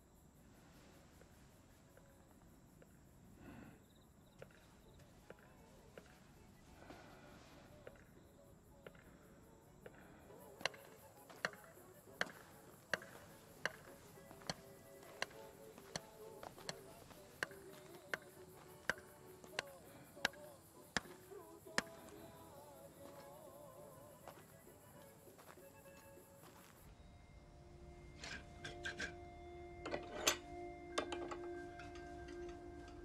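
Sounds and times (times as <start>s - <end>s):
quiet film score: 0.0s - 33.0s.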